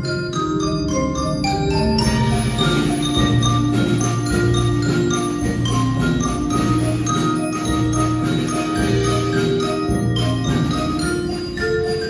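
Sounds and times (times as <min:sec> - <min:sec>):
drums: 0:00.0 - 0:12.0
mallet keyboard notes: 0:00.0 - 0:12.0.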